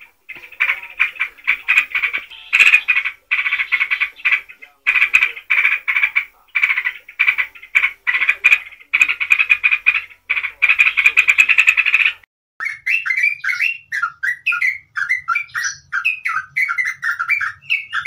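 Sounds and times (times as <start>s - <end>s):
songbird singing rapid phrases: 0.0s - 18.0s.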